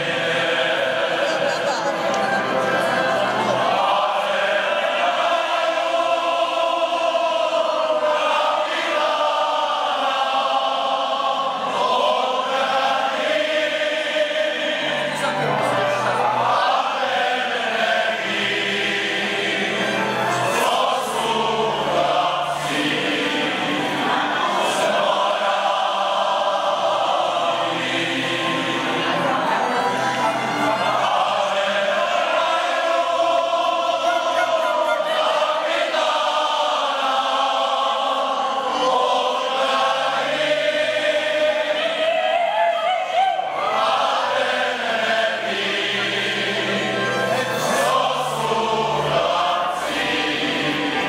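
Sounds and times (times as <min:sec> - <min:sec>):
men's choir singing slow song: 0:00.0 - 0:51.0.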